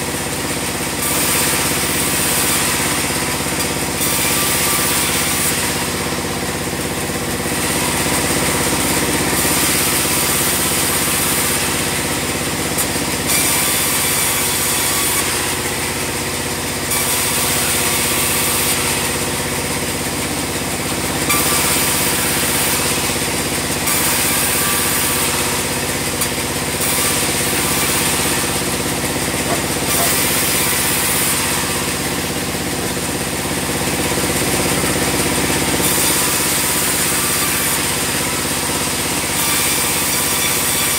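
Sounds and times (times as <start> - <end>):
bandsaw sawmill running: 0.0 - 40.9.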